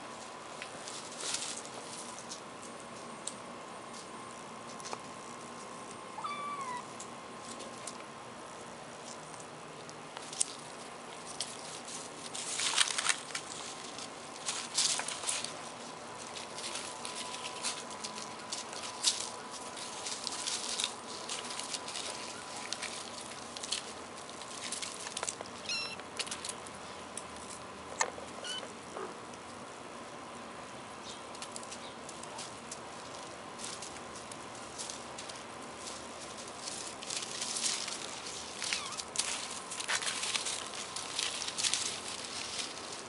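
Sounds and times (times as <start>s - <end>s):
faint high hum: 0.0s - 43.0s
kittens rustling through dry leaves: 0.0s - 43.0s.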